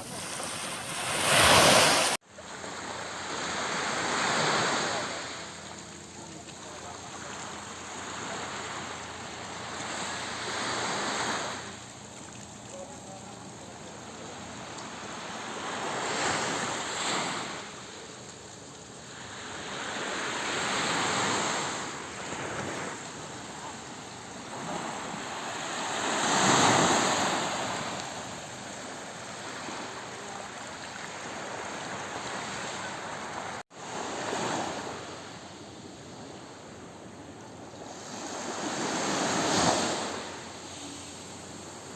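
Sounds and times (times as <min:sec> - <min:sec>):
waves breaking on shore: 0:00.0 - 0:41.9.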